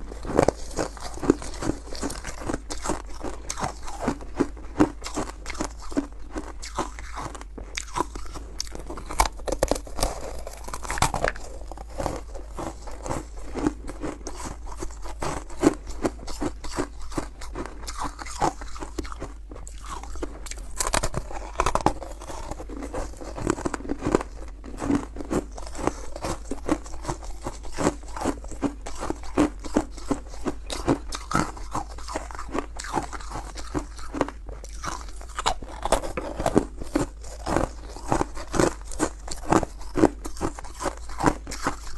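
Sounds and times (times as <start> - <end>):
frost being chewed crunching: 0.0 - 41.9.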